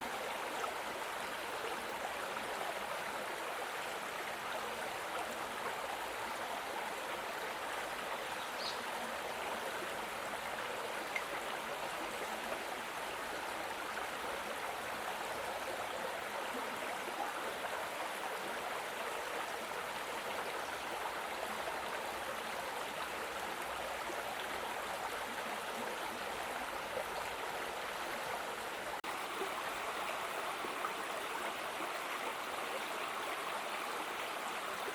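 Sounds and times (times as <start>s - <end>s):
stream water rushing over rocks: 0.0s - 34.9s.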